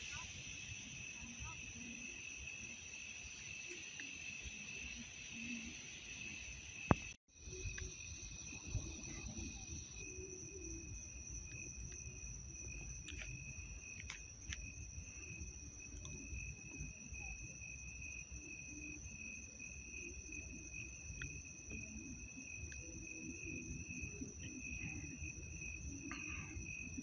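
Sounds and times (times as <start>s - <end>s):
night insects trilling: 0.0s - 27.0s.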